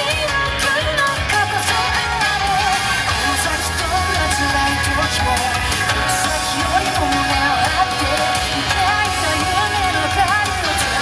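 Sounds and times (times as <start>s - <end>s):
rock band playing: 0.0s - 11.0s
woman singing: 0.0s - 11.0s.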